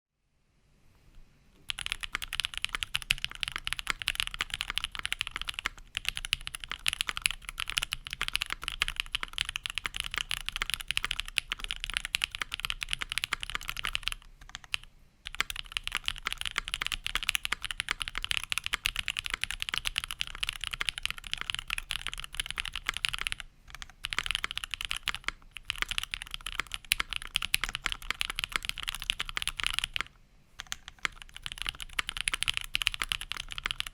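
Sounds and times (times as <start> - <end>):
fast typing on mechanical keyboard: 1.6 - 33.9.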